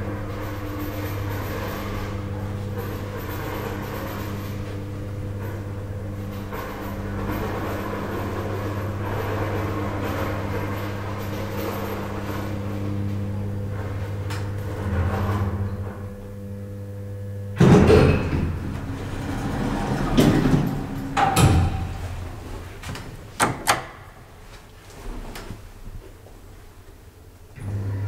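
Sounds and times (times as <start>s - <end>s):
elevator doors sliding open clatter: 0.0s - 26.8s
elevator drive hum: 0.0s - 28.0s.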